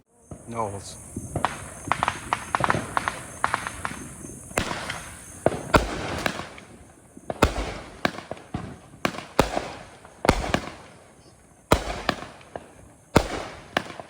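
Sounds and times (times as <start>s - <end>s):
fireworks cake firing shots: 0.3s - 14.0s.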